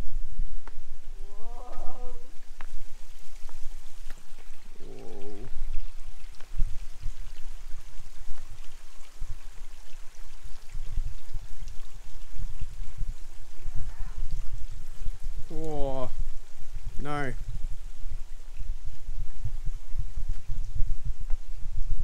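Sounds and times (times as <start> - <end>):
low rumbling on microphone: 0.0 - 22.0
stream running: 0.0 - 22.0.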